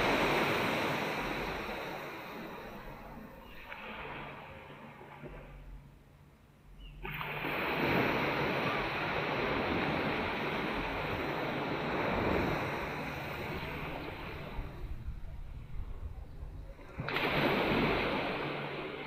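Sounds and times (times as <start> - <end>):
ocean surf rushing on beach: 0.0 - 4.7, 7.0 - 15.8, 16.9 - 19.0.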